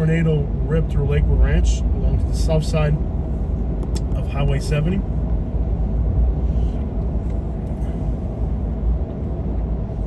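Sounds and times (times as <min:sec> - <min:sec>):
car interior road and engine rumble: 0:00.0 - 0:10.0.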